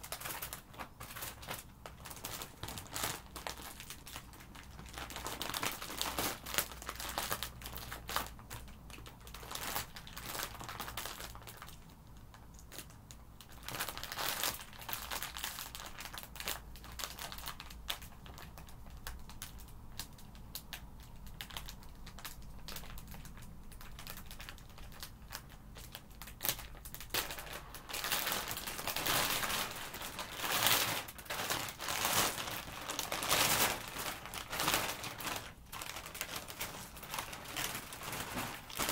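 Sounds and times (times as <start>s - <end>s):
plastic bag crinkling: 0.0s - 38.9s.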